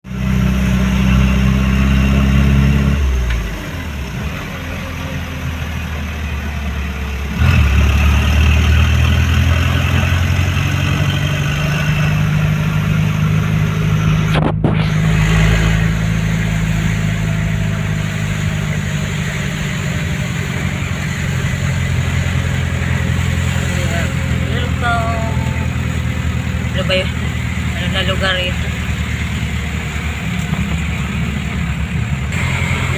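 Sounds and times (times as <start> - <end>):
engine humming: 0.0 - 32.9.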